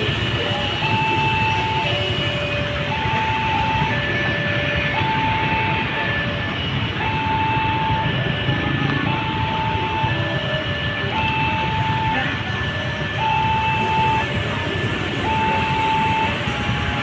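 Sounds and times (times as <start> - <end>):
electronic two-tone alarm: 0.0 - 17.0.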